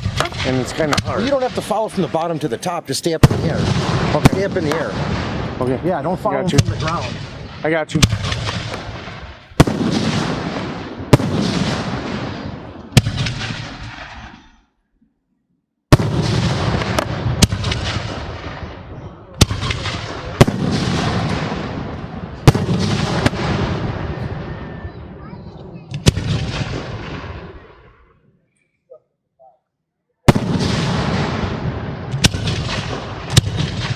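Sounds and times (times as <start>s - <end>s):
fireworks bursting with rolling rumble: 0.0s - 14.4s, 15.9s - 28.1s, 30.3s - 33.9s.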